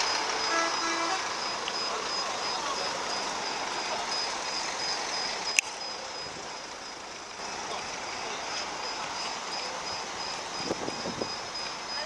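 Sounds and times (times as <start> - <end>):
bus driving past: 0.0 - 12.0
crowd in background: 0.0 - 12.0.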